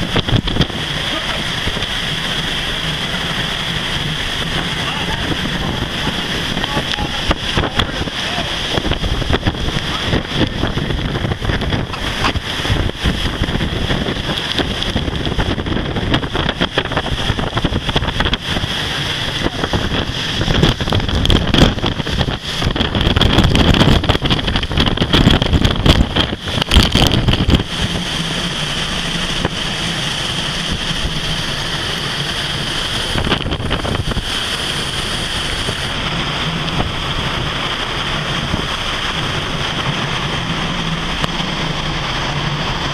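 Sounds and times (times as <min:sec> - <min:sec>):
rough waves and spray: 0:00.0 - 0:42.9
storm wind gusting on microphone: 0:00.0 - 0:42.9.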